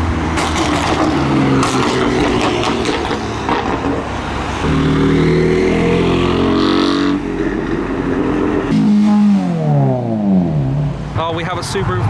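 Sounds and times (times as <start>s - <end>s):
car engines driving past: 0.0s - 12.0s.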